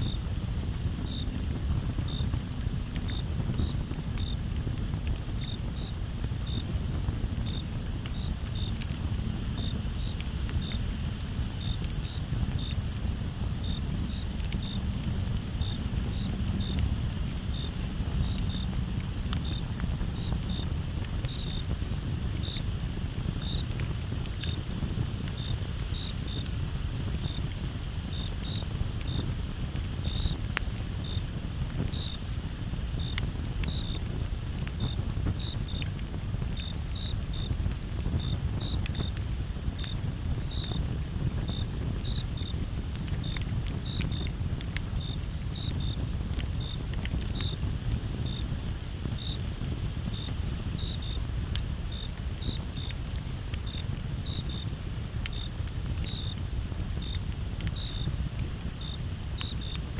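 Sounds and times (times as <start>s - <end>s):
campfire crackling: 0.0s - 59.9s
crickets chirping: 0.0s - 59.9s
insect hum: 0.0s - 59.9s.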